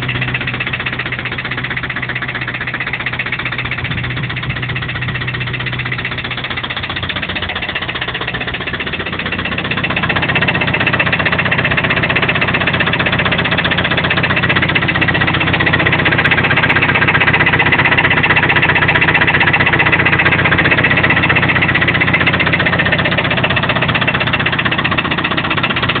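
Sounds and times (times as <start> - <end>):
engine running with rapid knock: 0.0 - 26.0.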